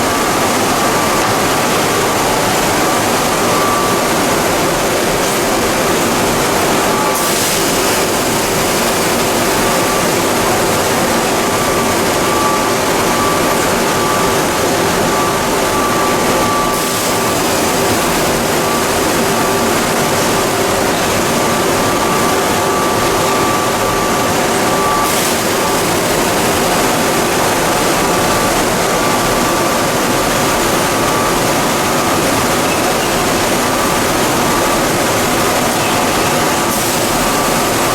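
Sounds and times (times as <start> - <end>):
high steady machine whine: 0.0 - 37.9
machinery hum: 0.0 - 37.9
pelletizing machinery rushing noise: 0.0 - 37.9.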